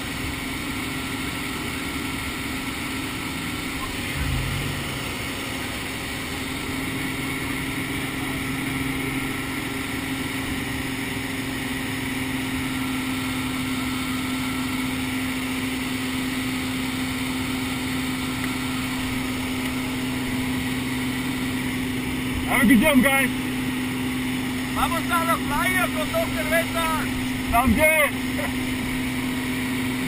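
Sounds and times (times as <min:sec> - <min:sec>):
propeller plane engine in cabin: 0:00.0 - 0:30.0.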